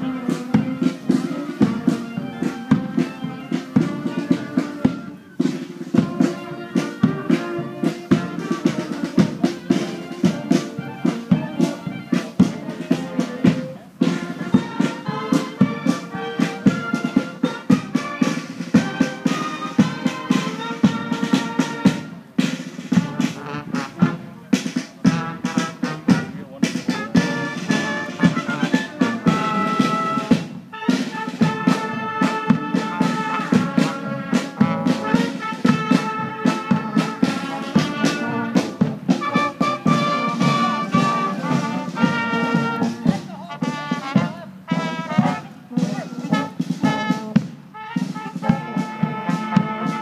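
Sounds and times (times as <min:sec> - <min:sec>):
military brass band march: 0:00.0 - 0:50.0.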